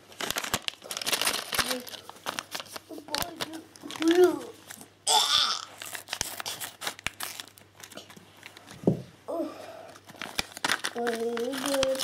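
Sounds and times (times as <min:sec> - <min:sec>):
plastic bag crinkling and tearing: 0:00.0 - 0:08.8, 0:09.9 - 0:12.0.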